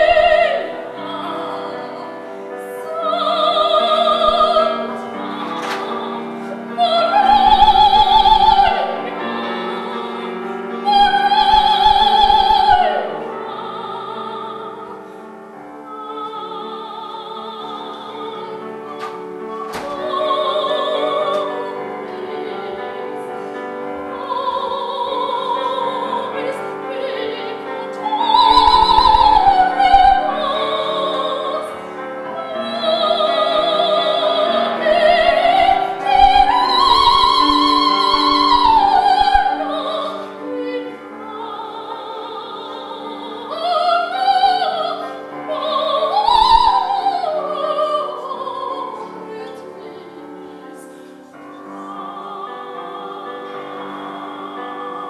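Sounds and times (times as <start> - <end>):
female opera singer: 0.0 - 55.0
grand piano: 0.0 - 55.0.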